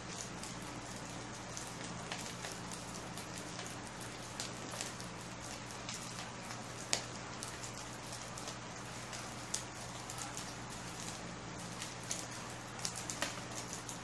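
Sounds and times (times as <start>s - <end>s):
charcoal crackling and popping: 0.0s - 14.0s.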